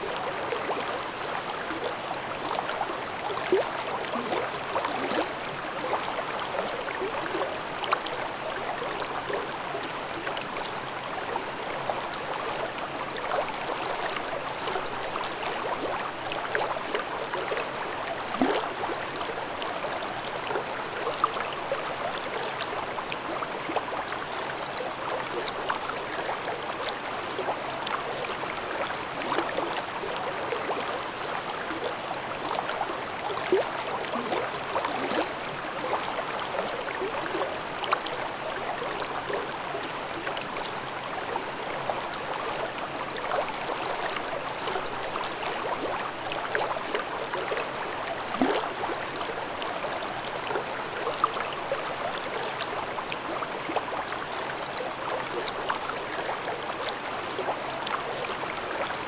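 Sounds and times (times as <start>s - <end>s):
stream babbling over rocks: 0.1s - 59.0s.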